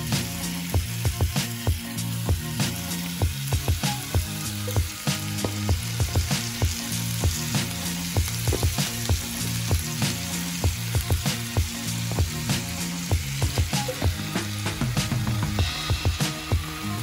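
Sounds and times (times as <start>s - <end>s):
background music with low bass: 0.0s - 17.0s
meat sizzling in hot oil: 0.0s - 17.0s.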